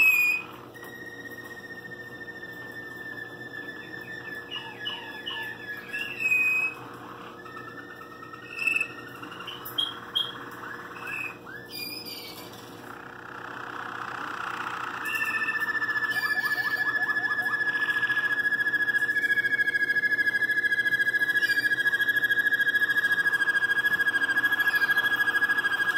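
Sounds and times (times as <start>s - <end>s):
canary singing: 0.0s - 25.9s.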